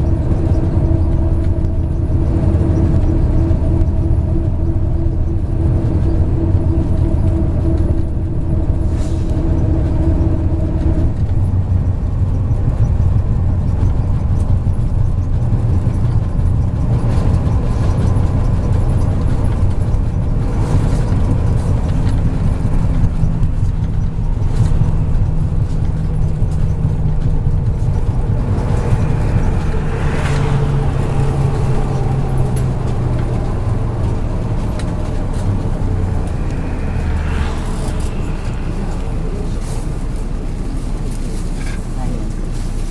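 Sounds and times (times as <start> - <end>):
bus engine and road rumble: 0.0 - 42.9
whine: 0.0 - 42.9.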